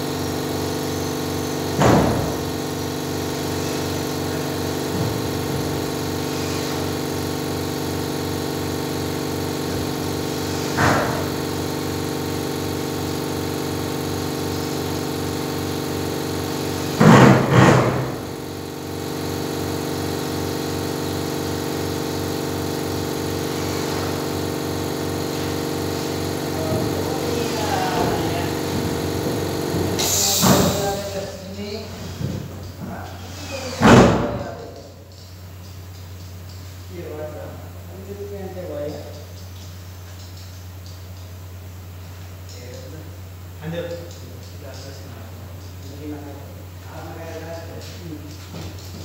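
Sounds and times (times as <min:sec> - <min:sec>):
machine droning: 0:00.0 - 0:49.0.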